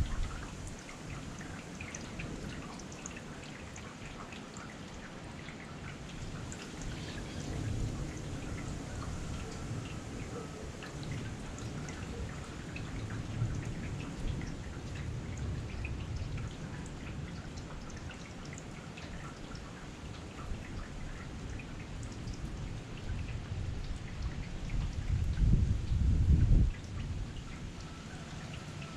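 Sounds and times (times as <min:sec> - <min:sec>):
heavy rain falling: 0:00.0 - 0:28.9
raindrops ticking on surface: 0:00.0 - 0:28.9.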